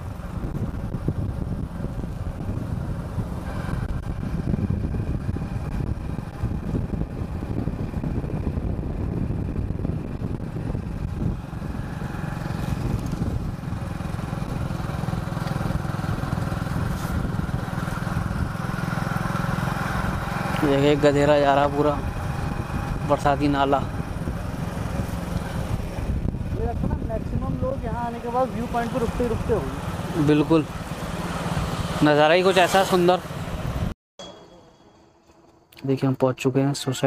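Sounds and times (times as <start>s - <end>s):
vehicle engine rumbling: 0.0s - 36.5s.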